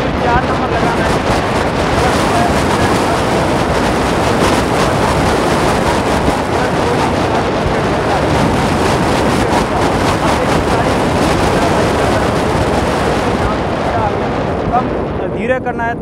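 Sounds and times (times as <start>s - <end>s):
motorcycle engine running: 0.0s - 15.0s
wind buffeting microphone: 0.0s - 16.0s.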